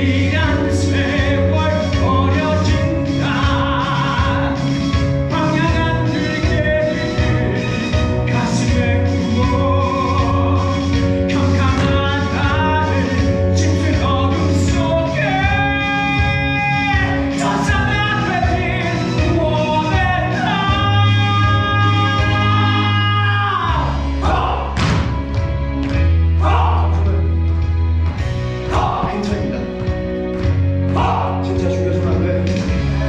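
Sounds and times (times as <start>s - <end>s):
men singing: 0.0s - 24.8s, 26.4s - 27.2s, 28.7s - 29.5s, 30.9s - 31.8s
recorded backing track: 0.0s - 33.0s.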